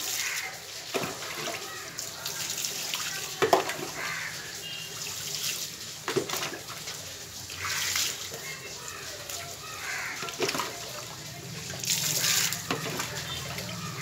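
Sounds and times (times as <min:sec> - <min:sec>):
water pouring and splashing: 0:00.0 - 0:14.0.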